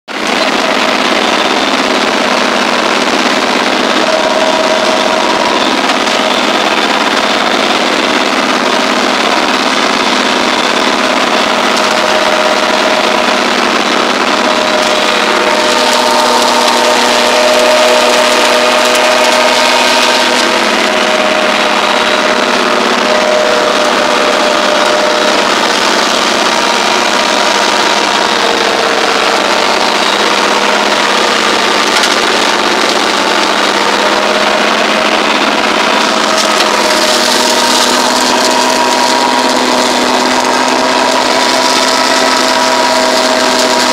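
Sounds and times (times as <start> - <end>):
tractor engine running under load: 0.0 - 43.9
flail mulcher chopping weeds: 0.2 - 43.9.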